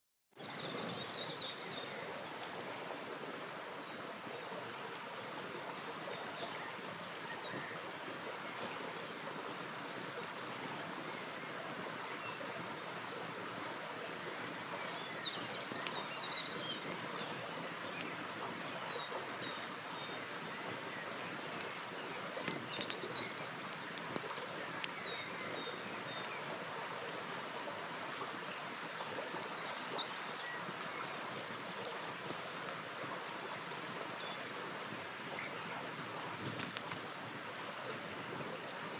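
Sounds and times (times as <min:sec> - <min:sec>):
river water flowing: 0:00.4 - 0:38.9
campfire crackles: 0:01.2 - 0:38.9.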